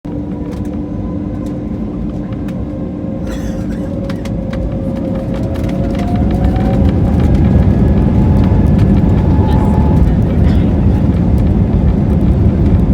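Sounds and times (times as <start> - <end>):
humming tones: 0.1 - 12.9
jet engines rumbling in cabin: 0.1 - 12.9
rising engine tone: 0.1 - 12.9.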